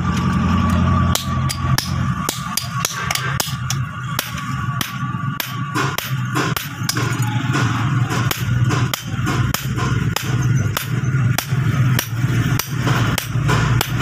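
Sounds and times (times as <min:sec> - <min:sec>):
hammer striking metal on anvil: 0:00.6 - 0:14.0.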